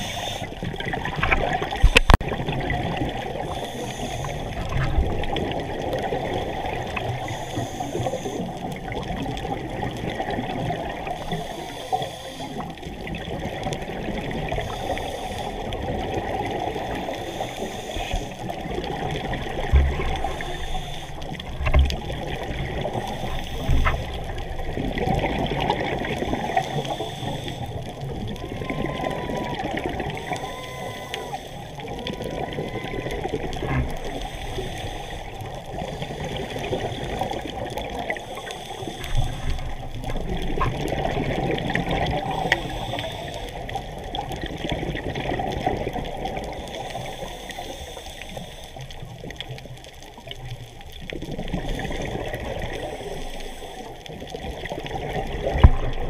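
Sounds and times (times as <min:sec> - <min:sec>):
diver regulator bubbles: 0:00.0 - 0:47.3, 0:48.8 - 0:56.0
muffled underwater water rush: 0:00.0 - 0:56.0.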